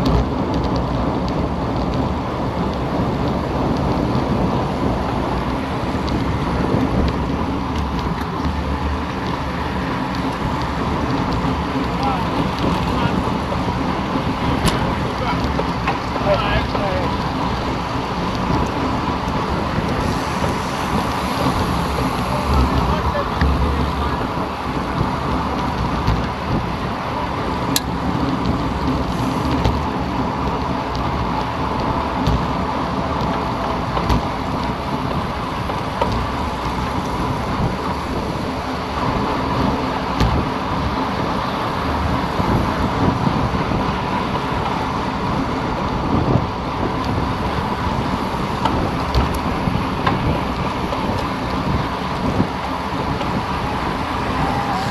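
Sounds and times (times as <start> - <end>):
tyre and road noise: 0.0 - 54.9
wind rush on microphone: 0.0 - 54.9.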